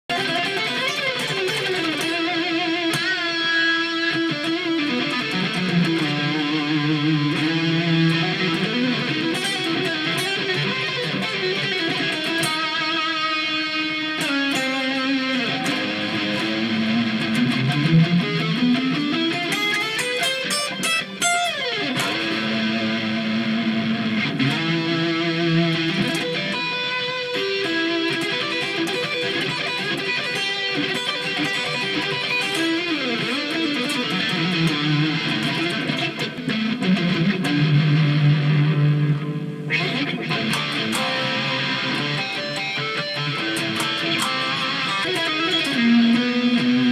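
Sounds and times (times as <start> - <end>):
electric guitar riffs with slides: 0.1 - 46.9.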